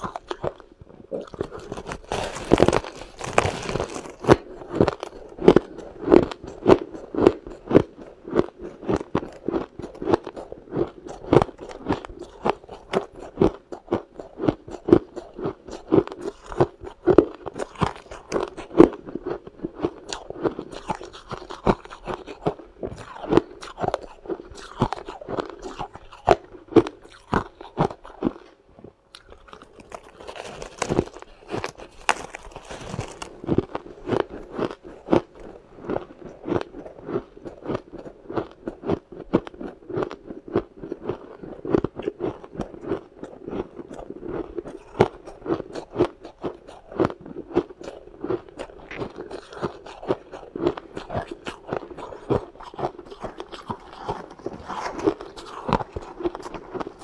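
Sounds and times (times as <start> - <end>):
person crunching ice: 0.0 - 28.5, 29.2 - 57.0.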